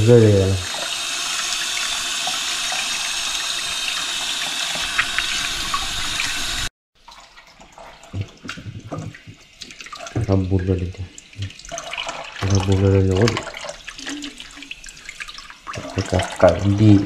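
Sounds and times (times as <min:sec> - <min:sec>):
faucet running into steel sink: 0:00.0 - 0:17.0
water splashes: 0:02.7 - 0:17.0.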